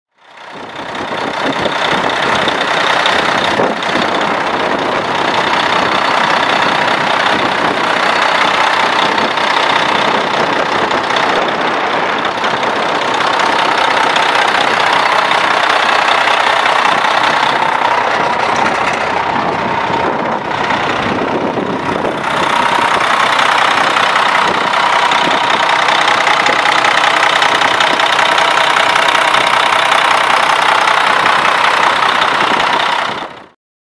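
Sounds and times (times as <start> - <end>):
truck diesel engine running: 0.1 - 33.6.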